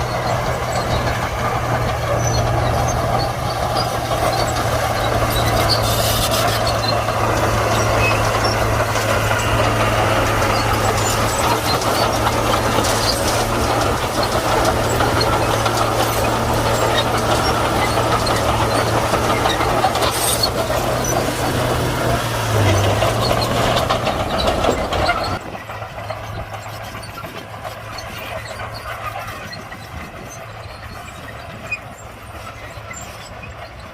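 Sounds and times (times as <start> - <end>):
bulldozer diesel engine running: 0.0 - 33.9
track and blade clatter: 0.0 - 33.9.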